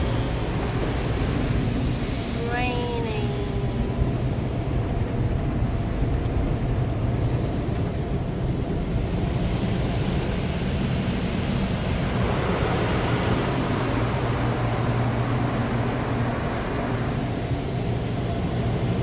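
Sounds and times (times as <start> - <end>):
car wash low hum: 0.0 - 19.0.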